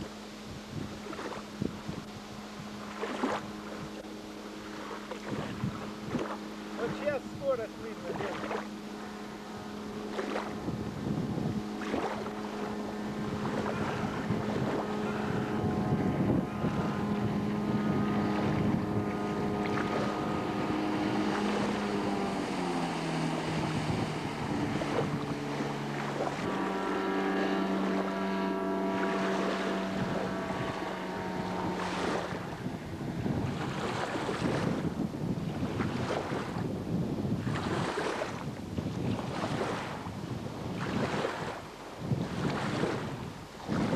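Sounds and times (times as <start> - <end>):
boat engine running: 0.0 - 43.9
water rushing past hull: 0.0 - 43.9
wind buffeting microphone: 0.0 - 43.9.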